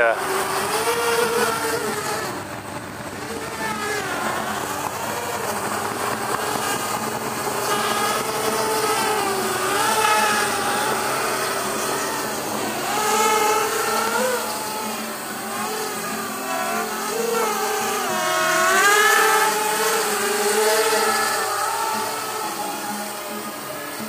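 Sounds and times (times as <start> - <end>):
drone propeller whine: 0.0 - 24.0.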